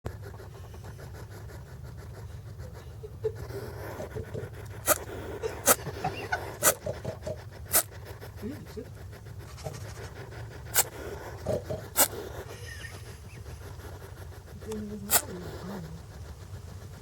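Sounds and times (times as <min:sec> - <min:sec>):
small irregular noises: 0:00.1 - 0:17.0
hedgehog sneezing: 0:00.2 - 0:16.8.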